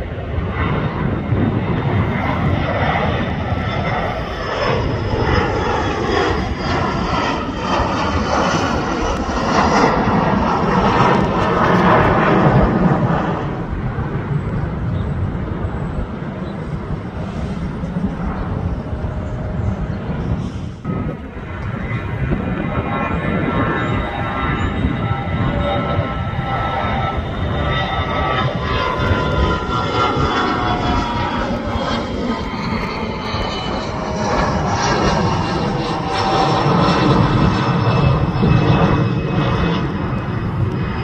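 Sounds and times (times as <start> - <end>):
jet plane passing overhead: 0.0 - 41.0.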